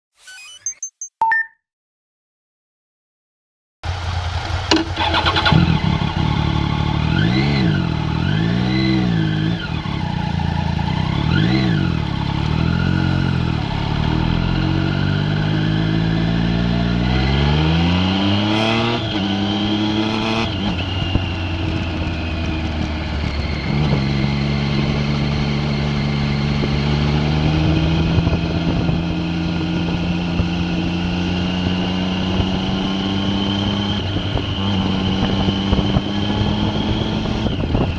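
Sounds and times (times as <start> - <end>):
vehicle engine revving and accelerating: 3.9 - 37.9.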